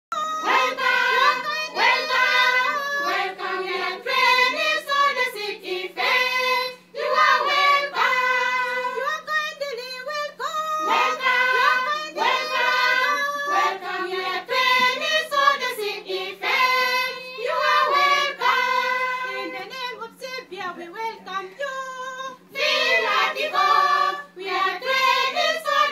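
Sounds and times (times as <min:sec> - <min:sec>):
women singing together: 0:00.1 - 0:25.9.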